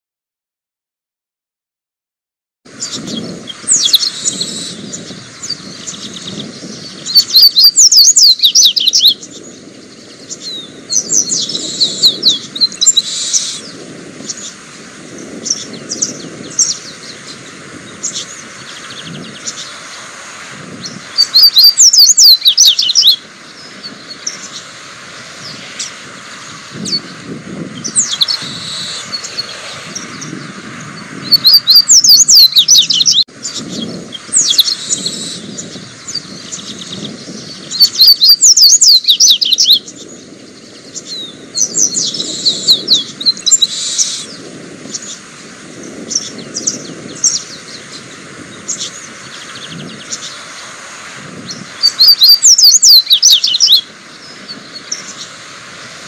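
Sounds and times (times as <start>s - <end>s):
bird twittering song: 2.7s - 50.7s, 51.3s - 55.4s
soft bird chirps: 2.8s - 20.1s, 20.8s - 24.8s, 25.4s - 45.2s, 45.9s - 50.7s, 51.4s - 55.4s.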